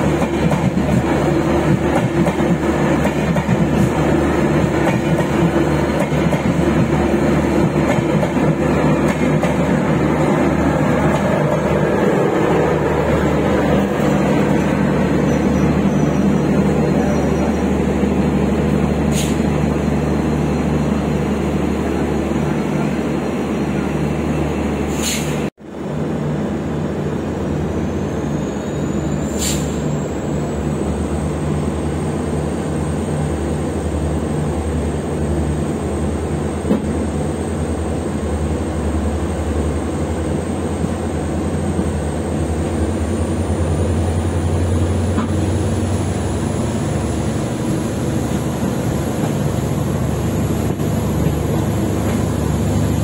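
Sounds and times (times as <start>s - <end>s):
train rumbling along track: 0.0s - 53.0s.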